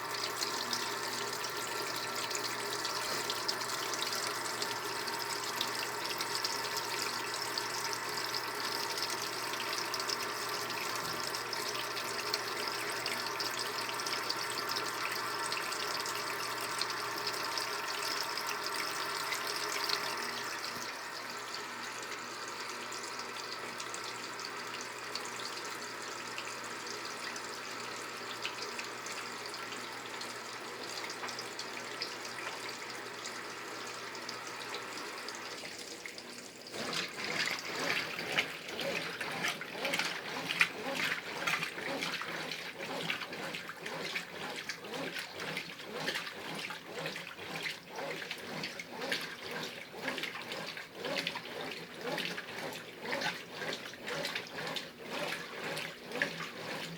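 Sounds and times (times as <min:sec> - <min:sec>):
water running into washing machine: 0:00.0 - 0:56.9.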